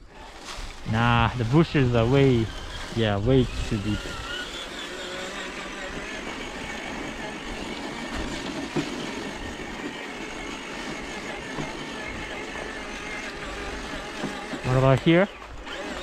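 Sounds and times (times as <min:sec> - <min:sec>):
rc truck motor whining: 0:00.0 - 0:16.0.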